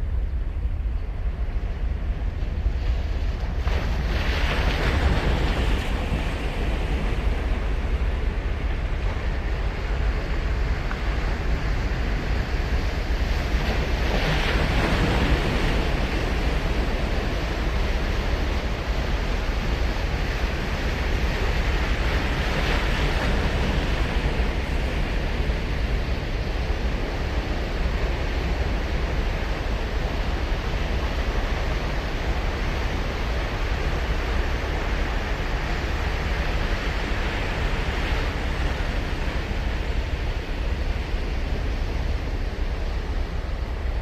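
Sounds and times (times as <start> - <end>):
wind rumble on microphone: 0.0 - 44.0.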